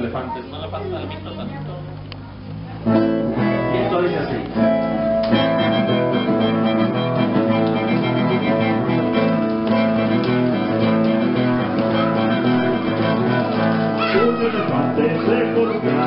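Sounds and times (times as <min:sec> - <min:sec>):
guitar playing held chords: 0:02.5 - 0:16.0.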